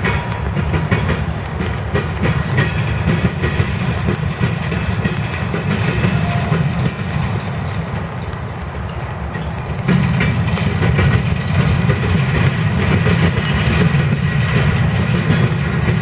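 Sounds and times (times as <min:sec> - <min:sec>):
freight train rumbling past: 0:00.0 - 0:16.0
wheels clattering over rail joints: 0:00.0 - 0:16.0.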